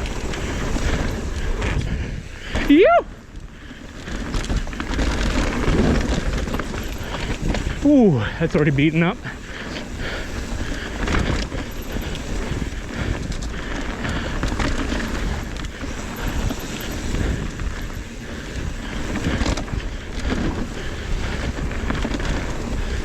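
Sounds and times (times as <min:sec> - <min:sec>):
bike rattling and clunking: 0:00.0 - 0:23.0
tyres rolling over rough ground: 0:00.0 - 0:23.0
wind buffeting microphone: 0:00.0 - 0:23.0.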